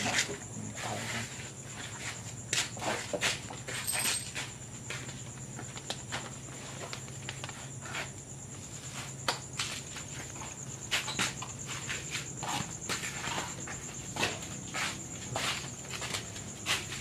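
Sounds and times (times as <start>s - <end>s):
high-pitched insect trill: 0.0s - 17.0s
footsteps and scuffs: 0.1s - 17.0s.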